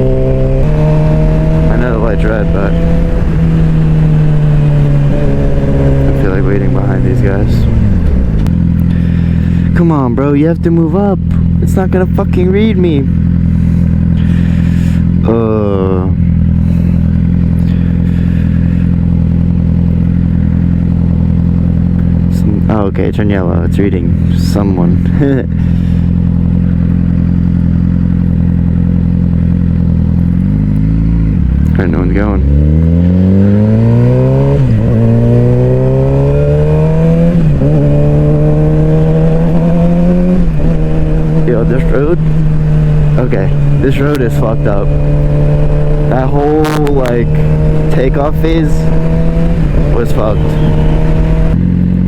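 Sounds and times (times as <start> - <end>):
motorcycle engine idling: 0.0 - 32.0, 37.9 - 52.0.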